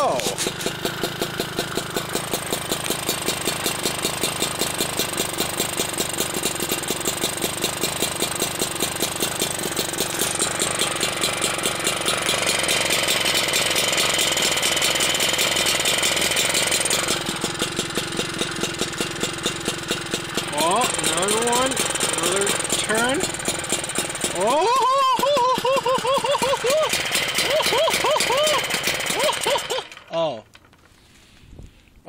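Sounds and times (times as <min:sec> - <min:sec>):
moped engine idling: 0:00.0 - 0:31.4.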